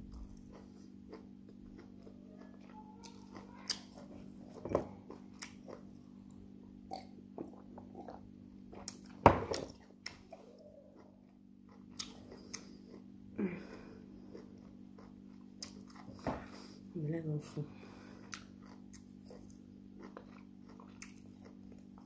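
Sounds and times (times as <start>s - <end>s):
steady low hum: 0.0s - 22.0s
person chewing with lip smacks: 0.1s - 13.1s, 14.2s - 16.3s, 18.2s - 22.0s.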